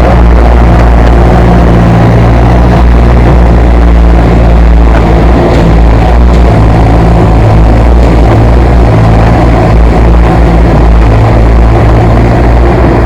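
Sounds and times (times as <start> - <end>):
backhoe engine droning: 0.0 - 13.0.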